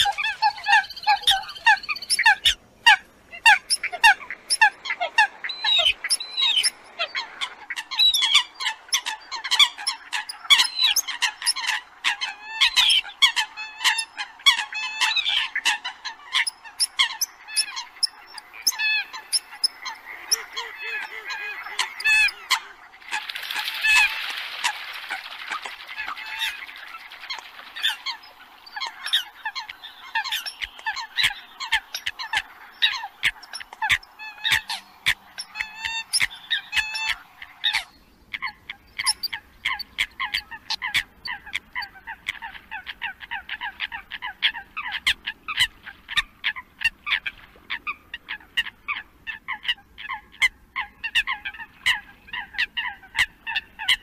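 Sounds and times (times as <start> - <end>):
coots honking calls: 0.0 - 26.8, 27.6 - 45.2.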